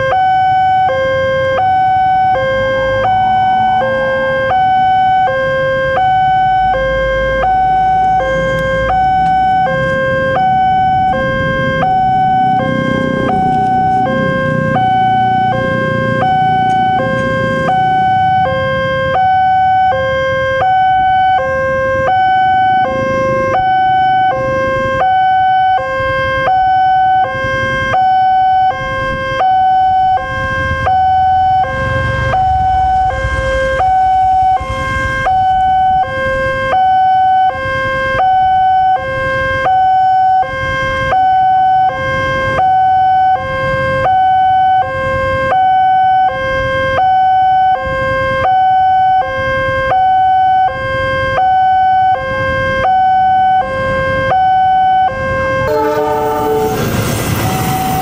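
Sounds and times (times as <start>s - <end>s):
level crossing warning alarm: 0.0s - 58.0s.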